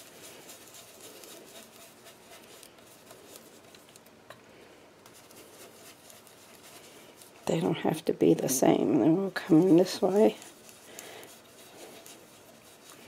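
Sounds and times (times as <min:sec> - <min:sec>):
brush scratching on cardstock: 0:00.0 - 0:04.0, 0:05.1 - 0:07.8, 0:09.0 - 0:13.0.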